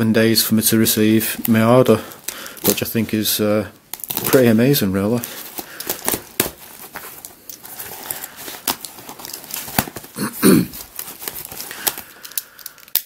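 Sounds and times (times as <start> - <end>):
packaging crinkling and tearing: 1.0 - 13.0.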